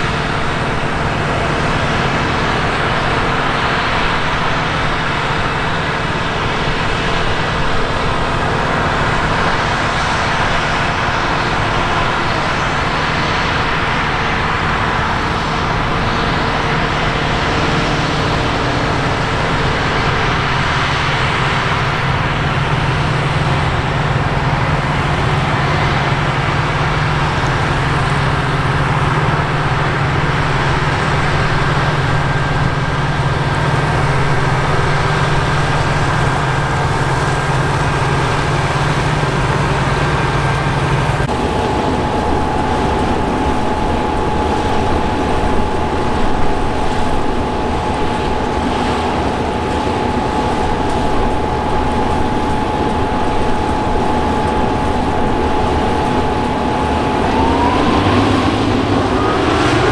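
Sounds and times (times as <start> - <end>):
high whine: 0.0 - 59.9
tractor engine running: 0.0 - 59.9.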